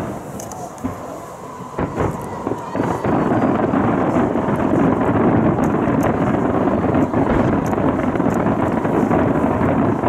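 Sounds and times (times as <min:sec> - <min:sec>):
faint fireworks crackles: 0:00.0 - 0:10.0
fireworks barrage rumbling: 0:00.0 - 0:10.0.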